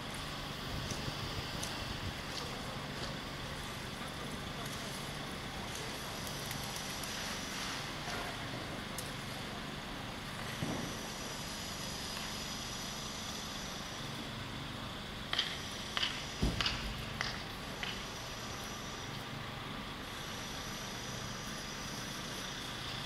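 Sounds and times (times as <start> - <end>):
city square background noise: 0.0 - 23.0.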